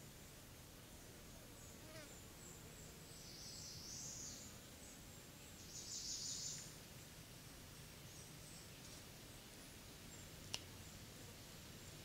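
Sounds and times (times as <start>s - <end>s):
faint high insect hum: 0.0s - 12.0s.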